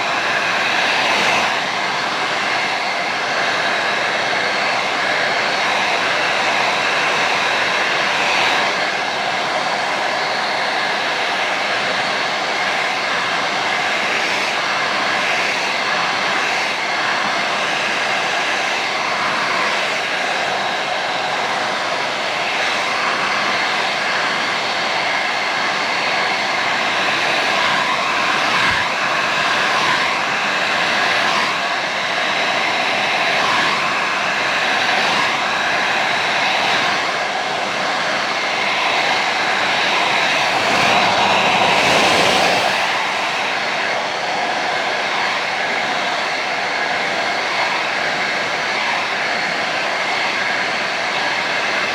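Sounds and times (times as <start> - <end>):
hair dryer running: 0.0 - 51.9.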